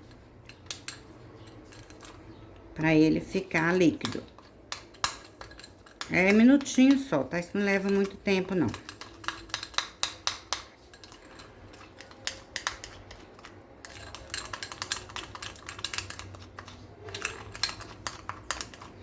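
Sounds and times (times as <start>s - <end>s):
spoon scraping and clicking in bowl: 0.0s - 19.0s.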